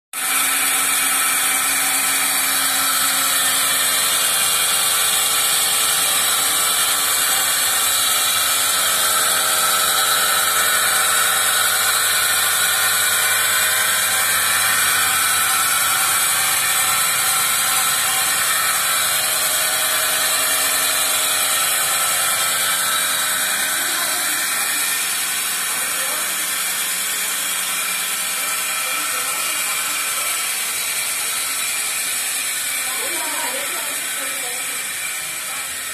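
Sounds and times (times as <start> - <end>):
vacuum pump hissing: 0.2 - 35.9.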